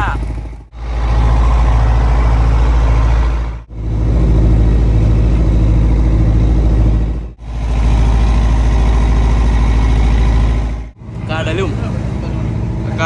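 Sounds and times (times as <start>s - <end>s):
diesel engine throbbing: 0.0s - 13.0s.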